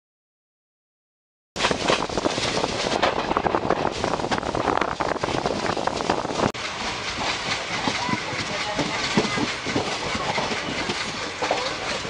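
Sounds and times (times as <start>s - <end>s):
train wheels rumbling and rattling: 1.6s - 12.0s
wind buffeting microphone: 1.6s - 12.0s.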